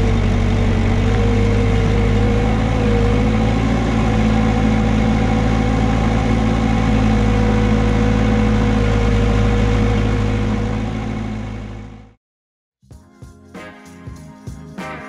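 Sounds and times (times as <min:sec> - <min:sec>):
steady whine: 0:00.0 - 0:12.1
skid steer engine running: 0:00.0 - 0:12.2.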